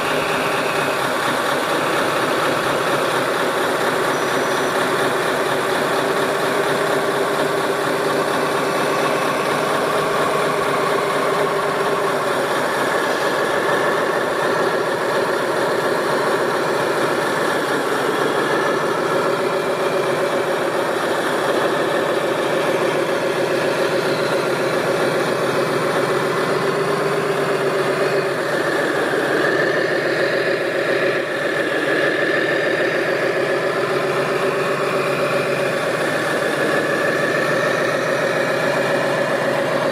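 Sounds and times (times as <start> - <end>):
machine engine-like hum: 0.0 - 39.9.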